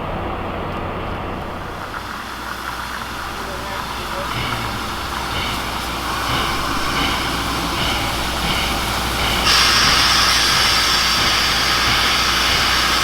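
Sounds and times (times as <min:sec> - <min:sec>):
steam hiss: 0:01.6 - 0:13.0
steam train rhythmic beat: 0:01.6 - 0:13.0.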